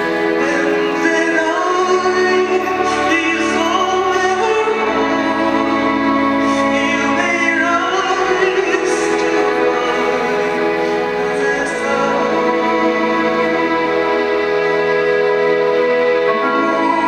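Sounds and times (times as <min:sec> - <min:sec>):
string orchestra playing: 0:00.0 - 0:17.0.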